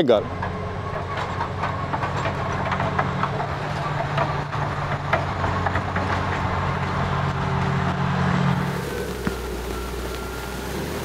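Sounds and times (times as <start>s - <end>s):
bulldozer diesel engine running: 0.0s - 11.0s
steel tracks clanking: 0.0s - 11.0s.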